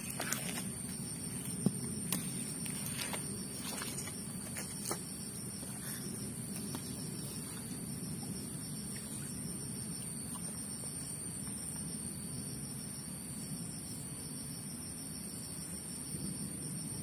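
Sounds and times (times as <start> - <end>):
low background rumble: 0.0 - 15.0
high-pitched insect chorus: 0.0 - 17.0.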